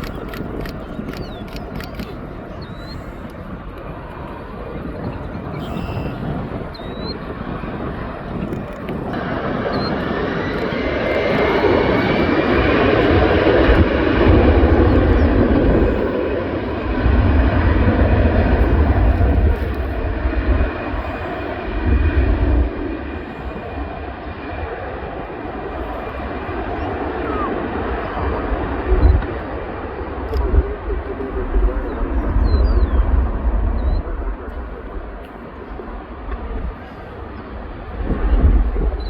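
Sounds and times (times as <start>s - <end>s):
jet engines passing: 0.0s - 39.0s.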